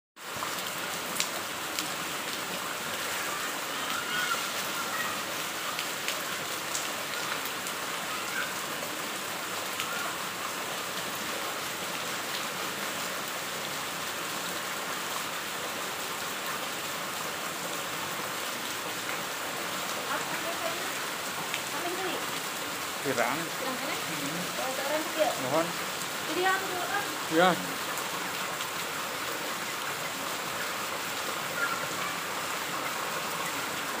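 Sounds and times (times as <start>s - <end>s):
heavy rain on pavement: 0.2s - 34.0s.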